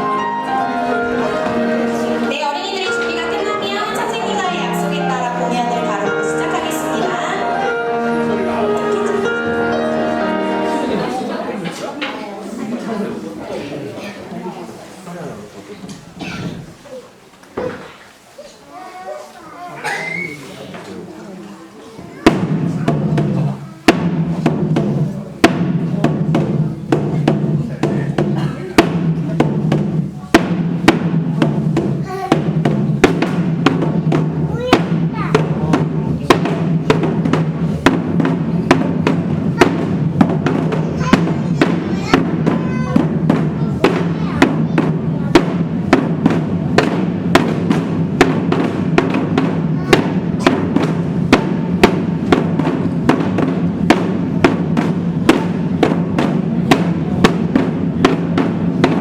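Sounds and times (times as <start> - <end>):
barrel drum: 0.0 - 11.2, 22.2 - 59.0.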